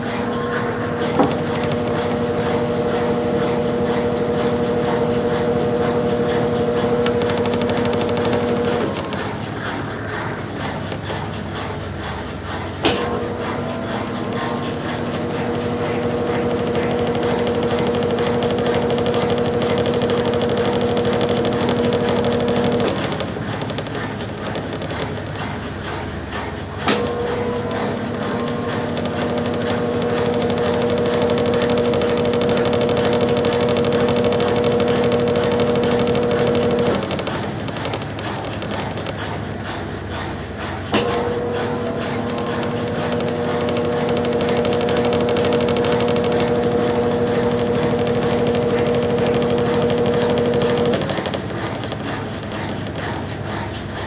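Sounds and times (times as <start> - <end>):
rapid ticks: 0.0 - 54.0
washing machine motor humming: 0.0 - 54.0
washing machine rattling: 0.0 - 54.0
water and clothes churning: 0.0 - 54.0.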